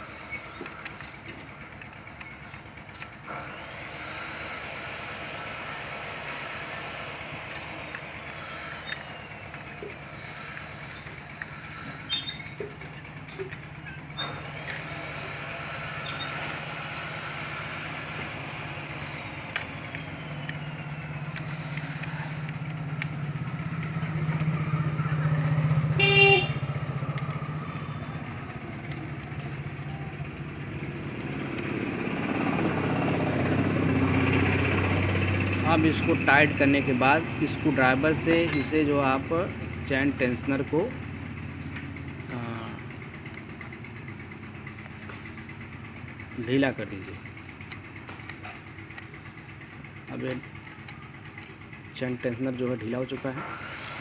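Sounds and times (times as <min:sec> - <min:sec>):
background traffic hum: 0:00.0 - 0:54.0.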